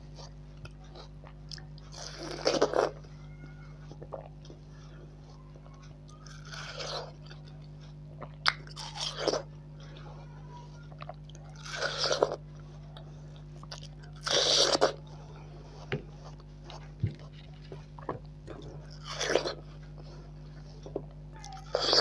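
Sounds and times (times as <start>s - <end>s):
person chewing watermelon: 0.0s - 22.0s
steady low hum: 0.0s - 22.0s.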